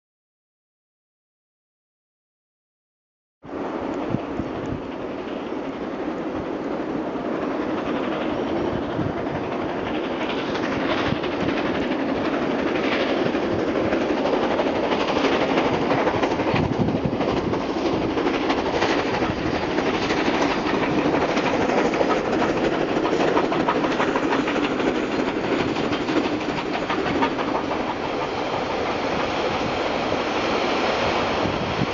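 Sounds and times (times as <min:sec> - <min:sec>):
steam locomotive passing: 0:03.4 - 0:31.9
rail clatter: 0:03.8 - 0:31.9.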